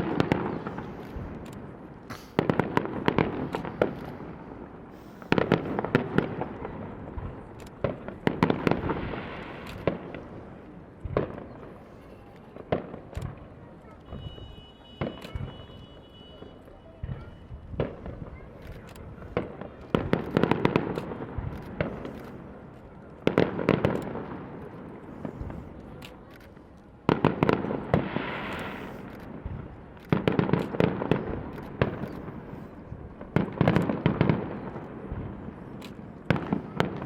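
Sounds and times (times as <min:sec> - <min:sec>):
fireworks booming: 0:00.0 - 0:37.0
fireworks crackling: 0:00.0 - 0:37.0.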